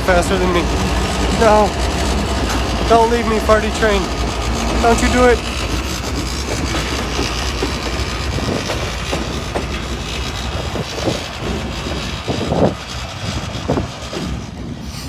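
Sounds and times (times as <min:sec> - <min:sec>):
deep train rumble: 0:00.0 - 0:15.0
freight train running gear: 0:00.0 - 0:15.0
train knocks and clanks: 0:00.0 - 0:15.0.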